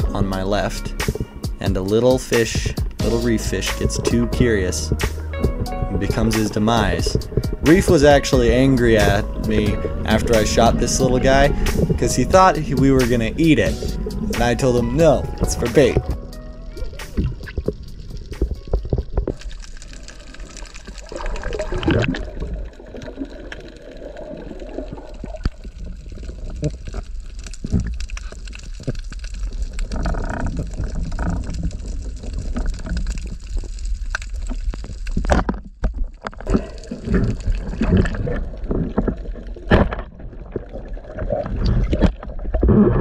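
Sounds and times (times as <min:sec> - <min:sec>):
muffled underwater rumble: 0:00.0 - 0:35.4
water gurgling: 0:00.0 - 0:43.0.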